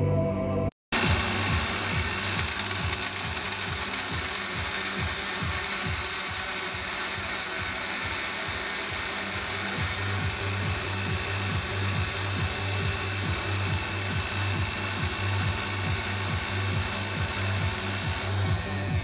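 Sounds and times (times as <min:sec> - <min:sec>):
blender grinding nuts: 0:00.9 - 0:19.0.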